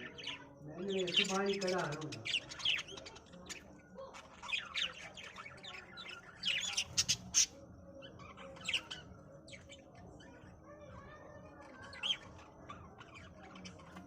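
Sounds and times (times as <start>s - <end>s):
budgerigars chirping and squawking: 0.0s - 14.0s.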